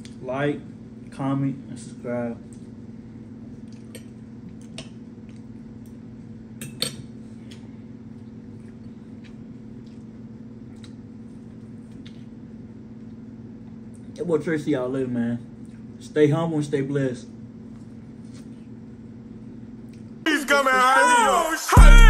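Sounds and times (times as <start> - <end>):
steady low hum: 0.0 - 20.3, 21.3 - 22.0.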